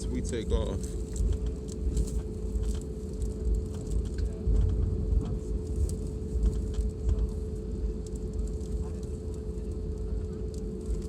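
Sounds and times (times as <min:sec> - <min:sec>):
airliner engine hum: 0:00.0 - 0:11.0
low uneven rumble: 0:00.0 - 0:11.0.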